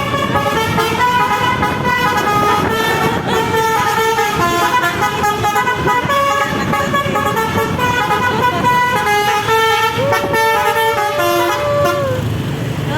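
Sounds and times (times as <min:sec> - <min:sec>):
musical air horn tune: 0:00.0 - 0:12.2.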